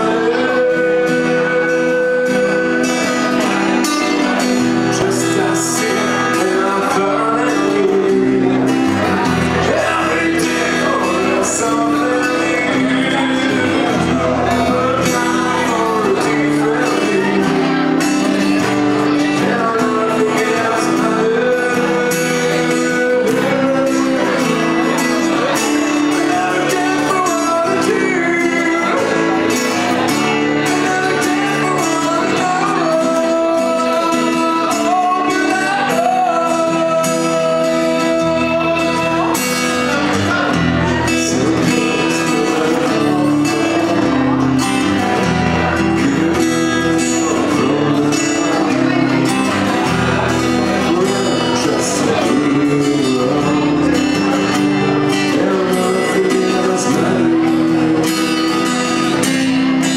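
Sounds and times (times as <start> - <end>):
acoustic guitars strummed: 0.0 - 59.9
man singing: 0.0 - 59.9.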